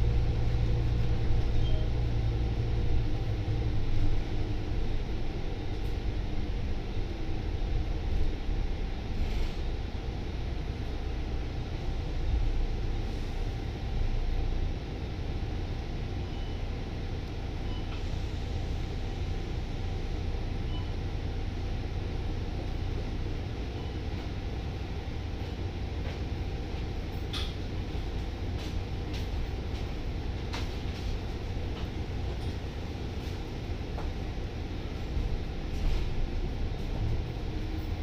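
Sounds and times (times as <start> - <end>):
bus diesel engine and road rumble: 0.0 - 38.0.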